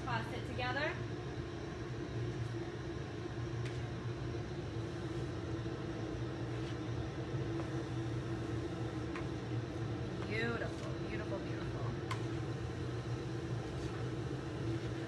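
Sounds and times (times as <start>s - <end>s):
low two-tone hum: 0.0s - 15.0s.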